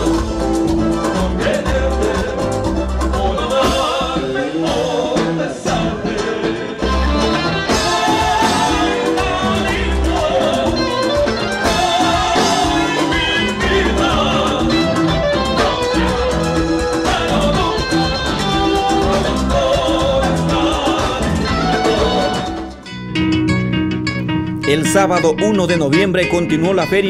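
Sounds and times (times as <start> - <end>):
man singing: 0.0 - 22.6, 24.6 - 27.0
acoustic guitars: 0.0 - 27.0
bass and percussion beat: 0.0 - 27.0.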